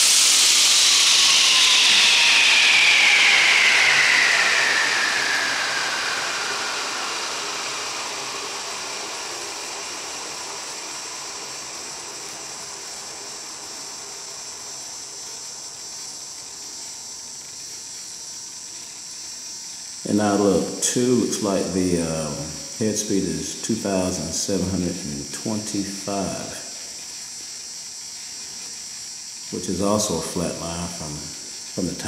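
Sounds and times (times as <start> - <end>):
helicopter rotor whine spinning down: 0.0 - 27.5, 29.4 - 32.0
faint steady hiss: 0.0 - 32.0.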